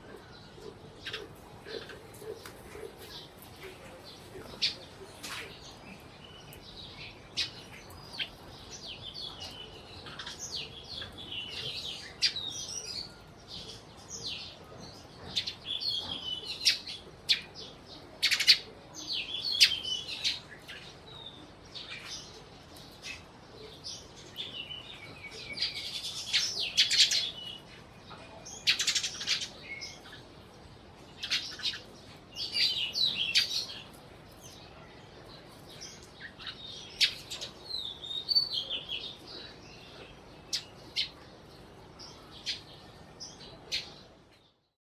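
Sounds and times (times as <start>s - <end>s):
sparrows chirping: 0.0s - 44.8s.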